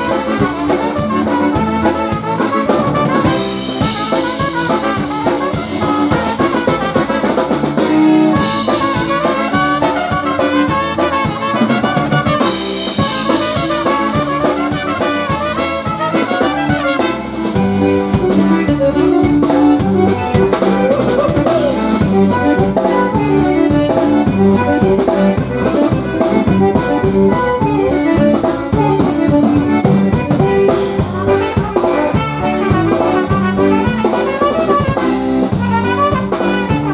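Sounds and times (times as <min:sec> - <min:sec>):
concertina: 0:00.0 - 0:36.9
drum kit beat: 0:00.0 - 0:36.9
trumpets playing melody: 0:00.0 - 0:36.9.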